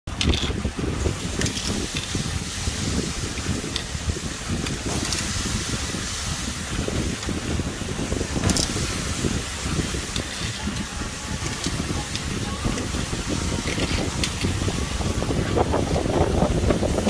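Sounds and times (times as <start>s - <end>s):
fire crackling: 0.1s - 17.0s
fluttering low rumble: 0.1s - 17.0s
meat sizzling over fire: 0.1s - 17.0s.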